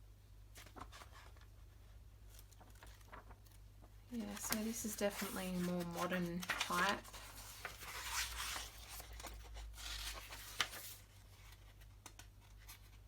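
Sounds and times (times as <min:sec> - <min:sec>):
book pages rustling: 0:00.6 - 0:01.7, 0:02.3 - 0:13.0.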